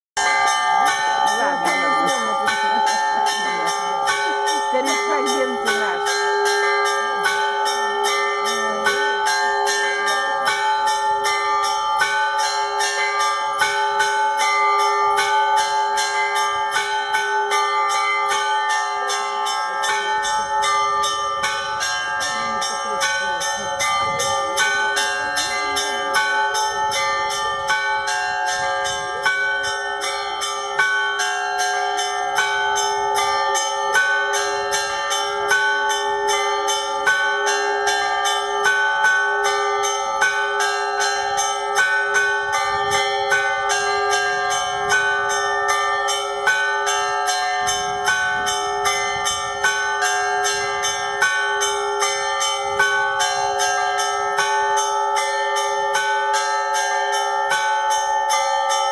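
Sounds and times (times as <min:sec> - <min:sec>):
large bells ringing: 0:00.2 - 0:58.9
small bells struck quickly: 0:00.2 - 0:58.9.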